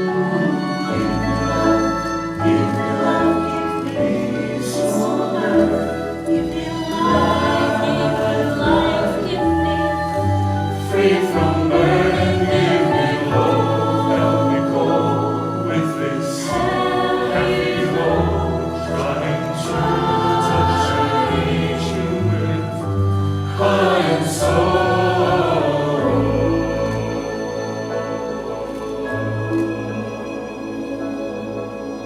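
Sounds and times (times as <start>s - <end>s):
choir singing held notes: 0.0s - 32.0s
instrumental backing: 0.0s - 32.0s.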